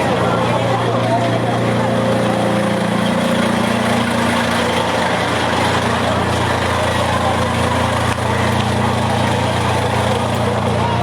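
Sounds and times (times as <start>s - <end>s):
engine idling: 0.0s - 11.0s
people talking in background: 0.0s - 11.0s.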